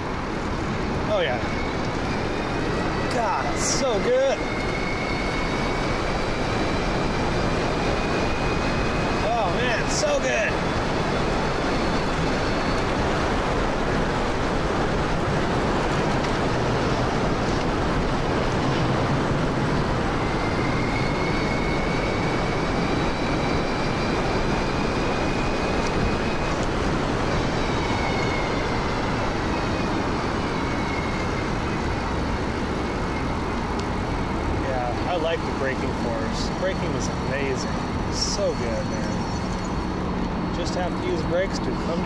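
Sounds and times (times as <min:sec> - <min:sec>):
rushing noise of riding: 0:00.0 - 0:42.0.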